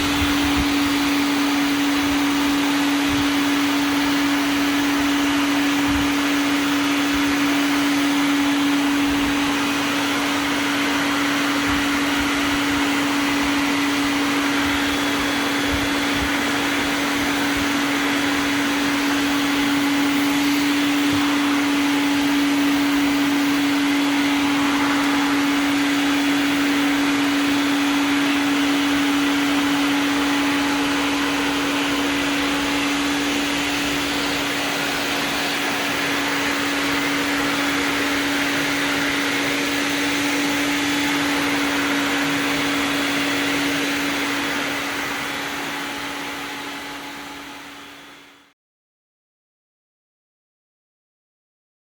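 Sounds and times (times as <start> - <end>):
vacuum cleaner running: 0.0 - 48.5.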